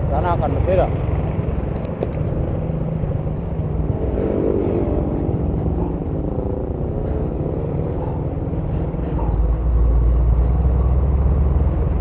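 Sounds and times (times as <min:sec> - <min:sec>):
diesel bus engine droning: 0:00.0 - 0:12.0
pitched hum: 0:01.3 - 0:11.0.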